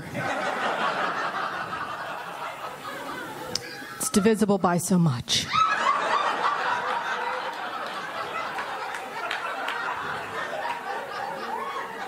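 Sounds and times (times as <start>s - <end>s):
audience laughing: 0.0s - 4.3s, 5.5s - 12.0s.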